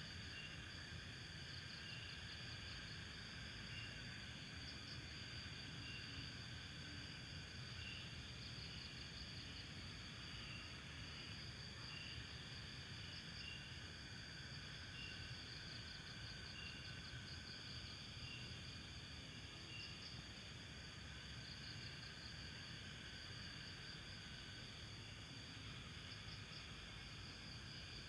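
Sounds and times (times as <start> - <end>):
insect chirps: 0.0 - 28.0
insects trilling: 0.1 - 28.0.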